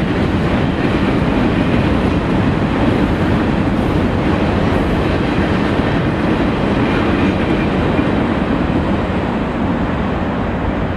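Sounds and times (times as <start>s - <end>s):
freight train rumbling past: 0.0s - 10.9s.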